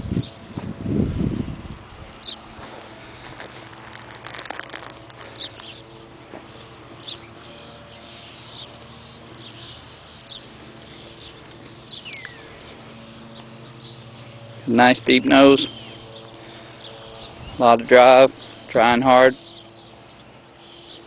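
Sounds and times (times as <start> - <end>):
birds chirping: 2.0 - 3.6, 4.3 - 21.0.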